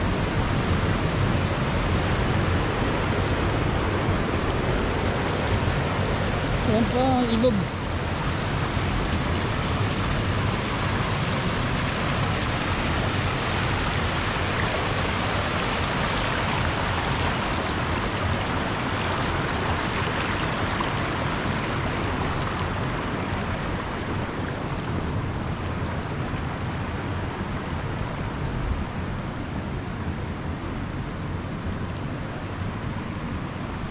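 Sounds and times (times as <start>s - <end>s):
river rushing over stones: 0.0s - 33.9s.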